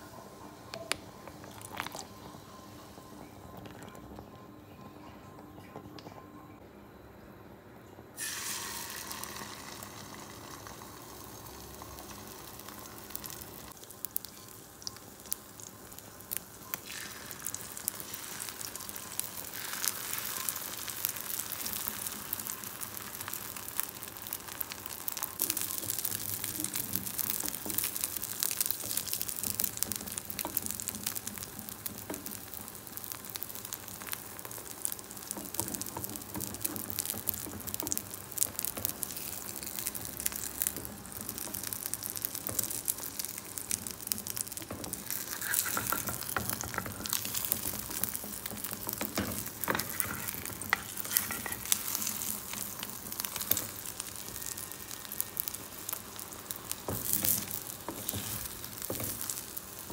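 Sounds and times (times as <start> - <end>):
omelette crackling: 0.6 - 5.0, 8.2 - 59.9
egg sizzling in a frying pan: 0.8 - 3.0, 8.2 - 59.9.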